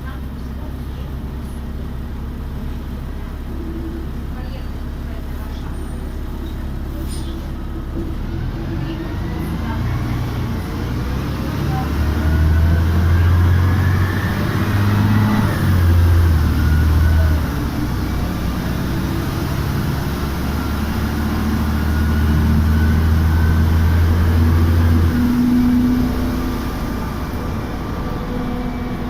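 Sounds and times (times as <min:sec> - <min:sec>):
bus engine drone: 0:00.0 - 0:29.0
faint drivetrain whine: 0:00.0 - 0:29.0.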